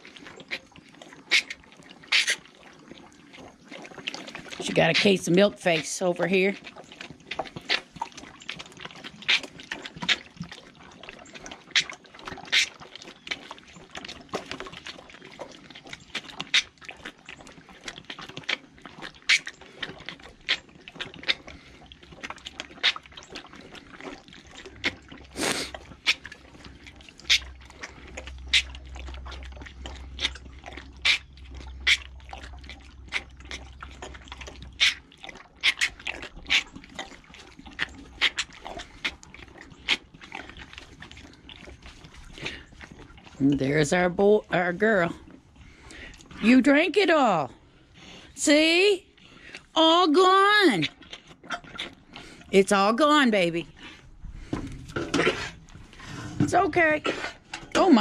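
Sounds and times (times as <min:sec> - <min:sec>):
calf sucking from bottle: 0:00.0 - 0:46.6, 0:49.1 - 0:49.8, 0:50.8 - 0:52.6, 0:53.6 - 0:57.9.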